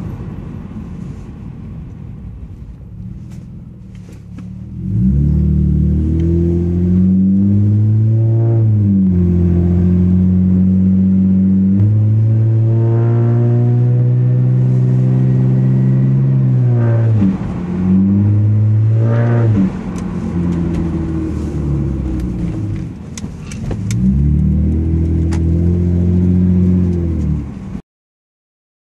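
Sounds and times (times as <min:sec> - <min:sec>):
car engine revving: 0:03.2 - 0:27.8.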